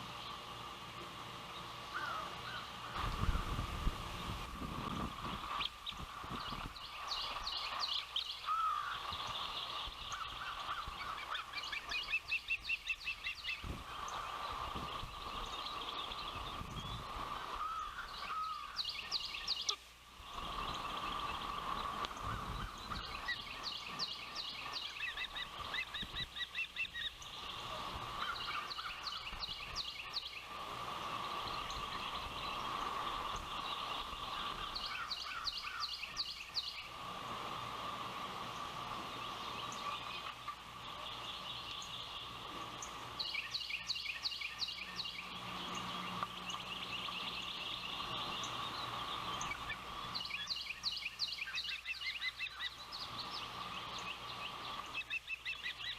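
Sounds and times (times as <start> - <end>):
ospreys calling: 0.0 - 55.9.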